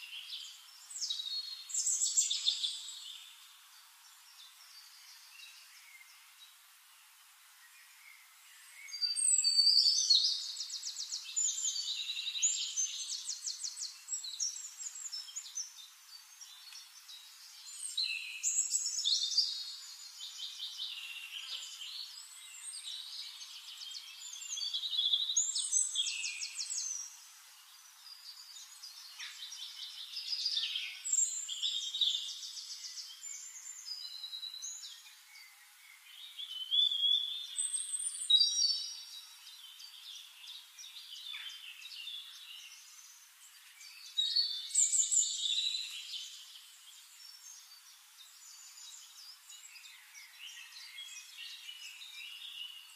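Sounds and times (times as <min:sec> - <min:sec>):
songbirds trilling and chirping: 0:00.0 - 0:52.9.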